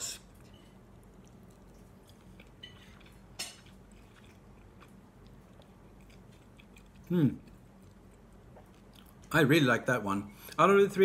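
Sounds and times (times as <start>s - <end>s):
faint chewing: 0.0s - 9.4s.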